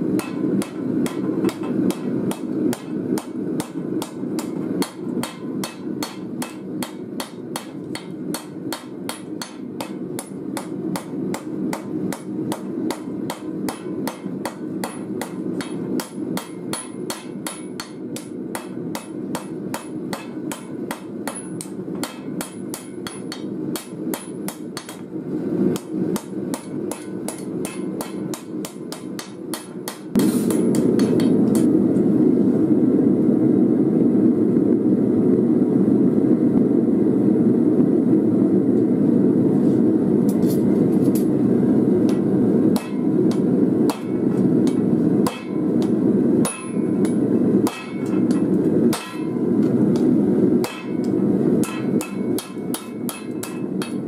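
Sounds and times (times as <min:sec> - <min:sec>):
hammer striking metal on anvil: 0:00.1 - 0:31.7, 0:42.1 - 0:54.0.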